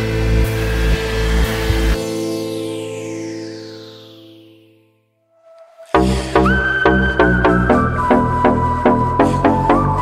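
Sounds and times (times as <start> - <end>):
background music chords: 0.0 - 10.0.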